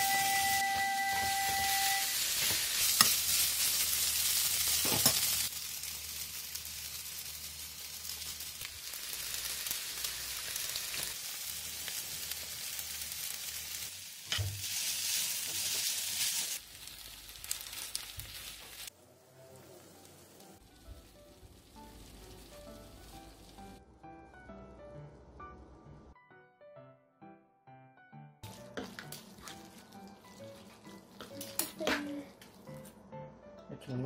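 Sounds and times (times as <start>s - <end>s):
food sizzling in a pan: 0.0s - 23.8s, 28.4s - 32.7s.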